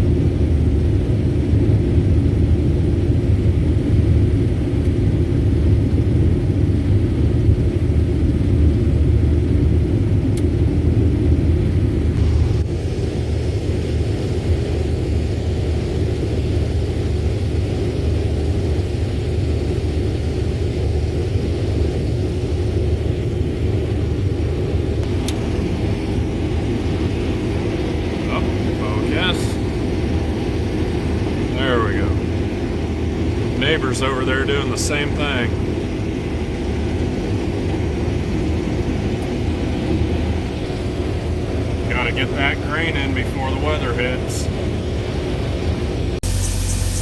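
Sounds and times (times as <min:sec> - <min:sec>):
combine harvester engine rumble: 0:00.0 - 0:47.0.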